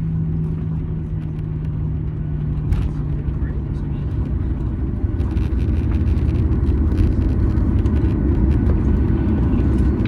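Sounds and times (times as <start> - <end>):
airliner rumbling on runway: 0.0 - 10.0.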